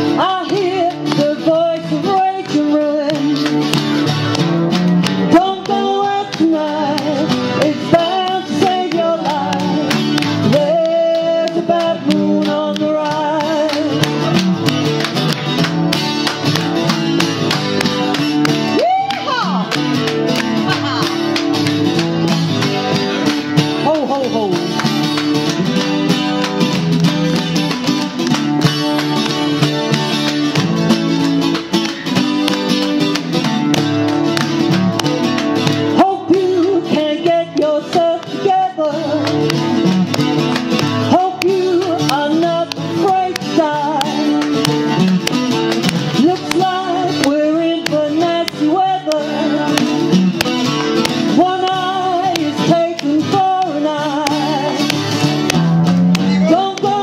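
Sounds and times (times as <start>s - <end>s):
acoustic guitar chords: 0.0s - 57.0s.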